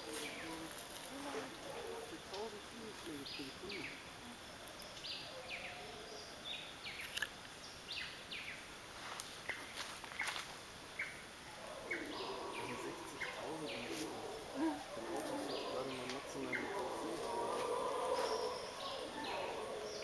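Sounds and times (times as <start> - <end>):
forest background sound: 0.0 - 20.0.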